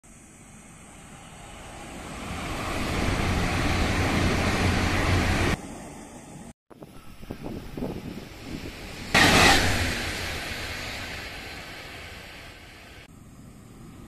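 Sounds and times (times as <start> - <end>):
high-speed train rushing past: 0.1 - 14.0.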